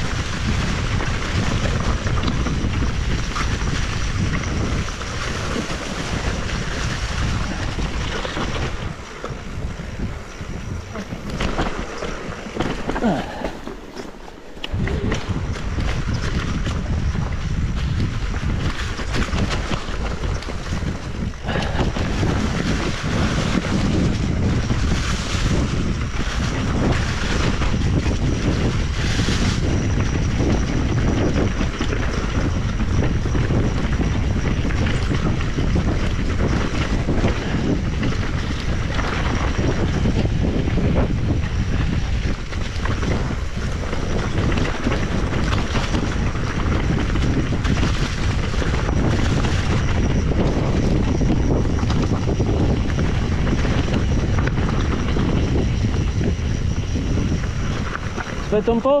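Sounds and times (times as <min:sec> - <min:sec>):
bike rattles and knocks: 0:00.0 - 0:59.0
wind rushing over microphone: 0:00.0 - 0:59.0.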